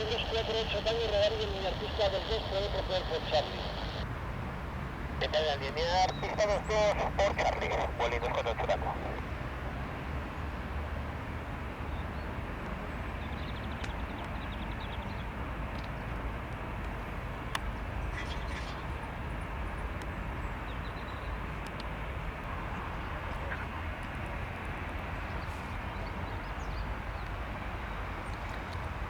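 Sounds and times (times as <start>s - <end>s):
outdoor rumble and hiss: 0.0s - 29.0s.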